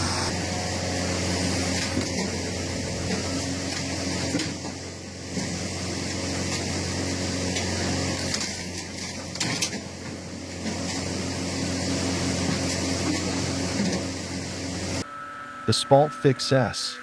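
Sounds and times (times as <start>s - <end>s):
engine humming: 0.0s - 15.7s.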